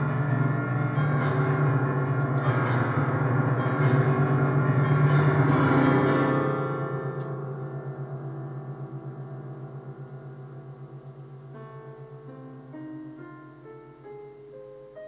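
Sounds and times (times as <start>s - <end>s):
electronic keyboard chord cluster: 0.0s - 15.0s.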